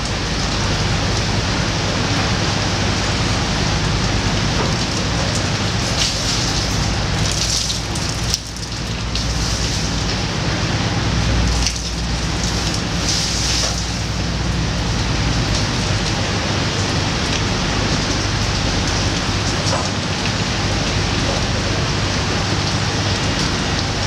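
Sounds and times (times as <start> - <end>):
boat engine humming: 0.0 - 24.0
rain hissing on a covered deck: 0.0 - 24.0.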